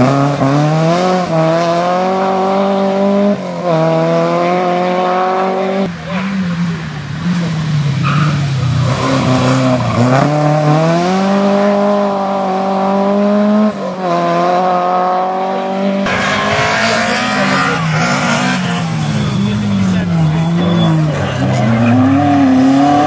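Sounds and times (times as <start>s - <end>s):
rally car engine accelerating: 0.0s - 23.0s.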